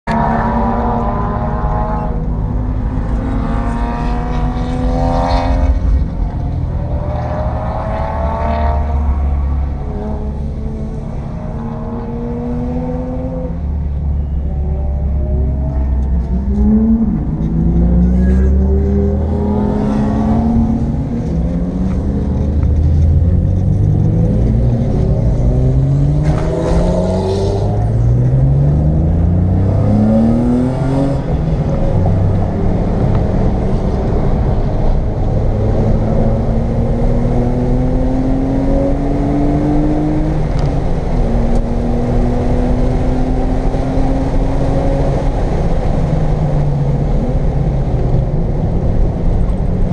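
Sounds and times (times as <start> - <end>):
road and wind noise: 0.0 - 49.9
car engine accelerating through gears: 0.1 - 49.9.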